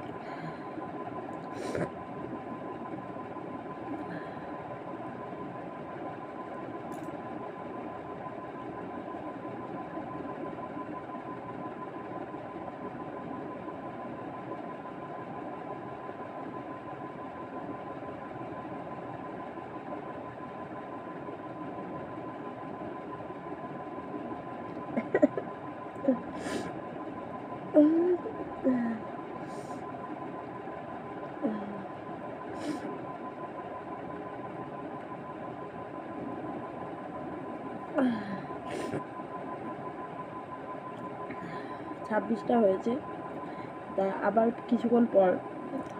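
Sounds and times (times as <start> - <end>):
mechanical hum with high whine: 0.0 - 45.9.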